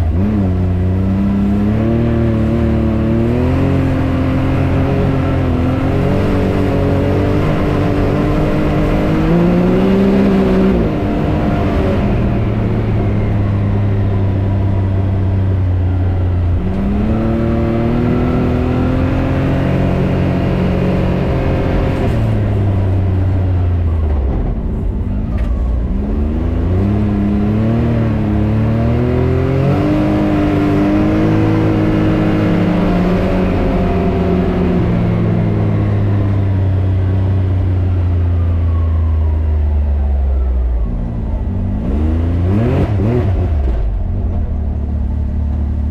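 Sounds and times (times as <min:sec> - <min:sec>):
engine speeding up and slowing: 0:00.0 - 0:45.9.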